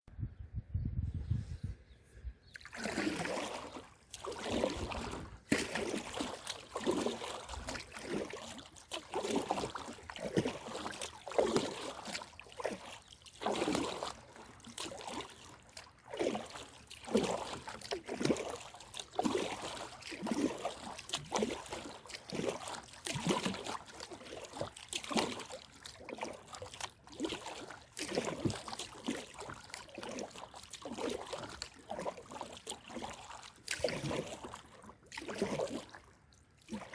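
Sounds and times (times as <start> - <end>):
kayak paddle splashing: 2.5 - 36.9
water trickling off paddle: 2.5 - 36.9.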